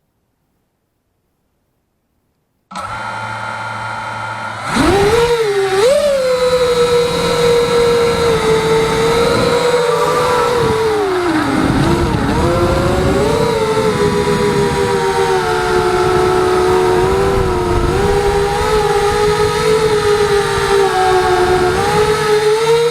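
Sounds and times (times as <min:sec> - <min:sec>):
quadcopter motors whining: 0:02.7 - 0:22.9.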